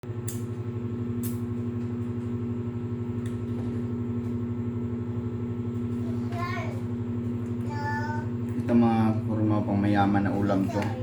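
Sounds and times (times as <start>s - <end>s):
pulsing mechanical hum: 0.0s - 11.0s.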